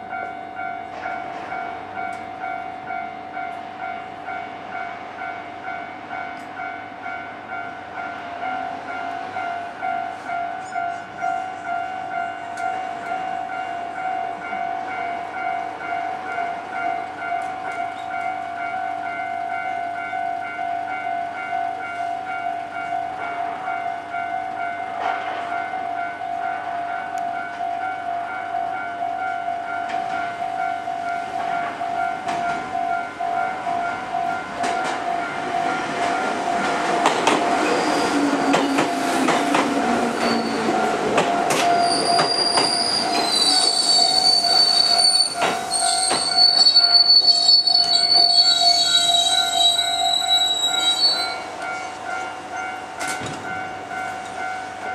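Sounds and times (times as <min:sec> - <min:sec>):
level crossing warning bell ringing: 0:00.0 - 0:54.9
train wheels running on rails: 0:00.0 - 0:54.9.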